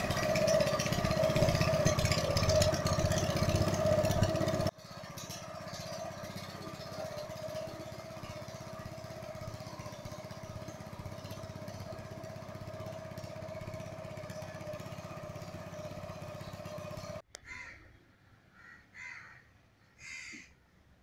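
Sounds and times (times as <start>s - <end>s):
small boat engine puttering: 0.0s - 17.3s.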